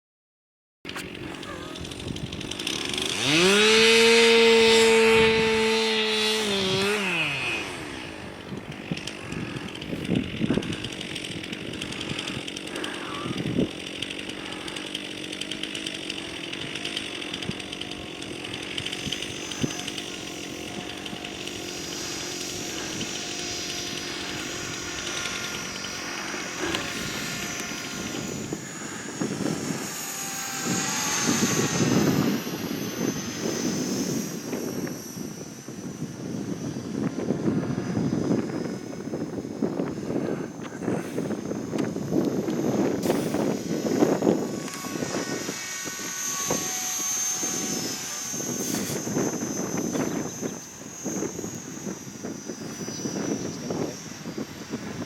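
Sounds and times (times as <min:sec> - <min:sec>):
model helicopter motor whining: 0:00.9 - 0:55.0.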